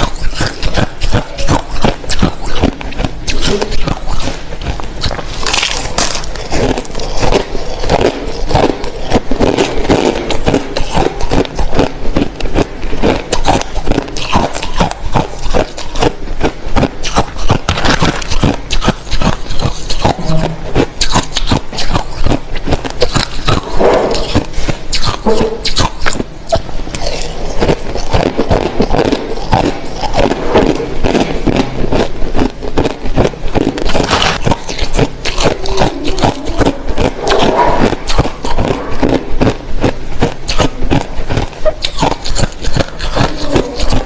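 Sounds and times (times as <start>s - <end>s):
chewing crushed ice: 0.0s - 44.0s.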